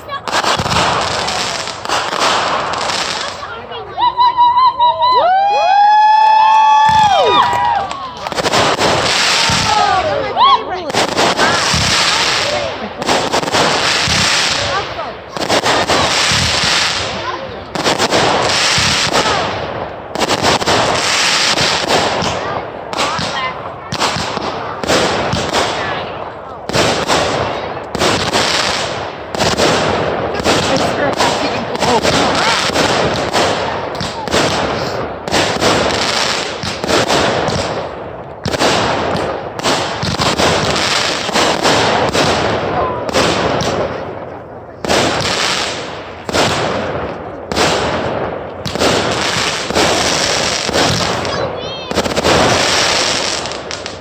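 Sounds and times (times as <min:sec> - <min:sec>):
firework bangs: 0:00.0 - 0:54.0.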